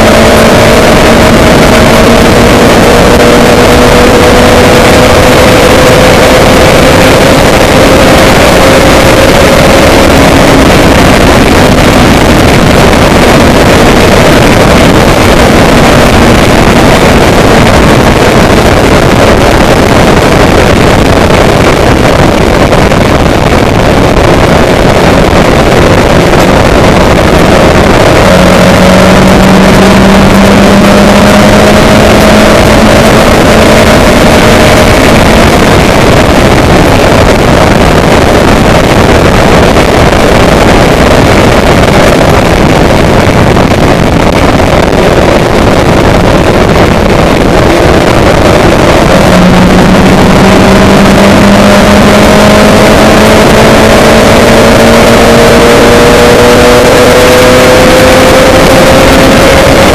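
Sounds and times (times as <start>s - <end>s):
low engine hum: 0.0s - 59.9s
vehicle travel noise: 0.0s - 59.9s
wind on microphone: 0.0s - 59.9s.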